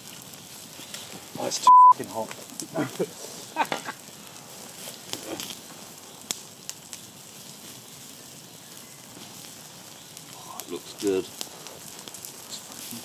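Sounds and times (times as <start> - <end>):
campfire crackling and sizzling: 0.0 - 13.0.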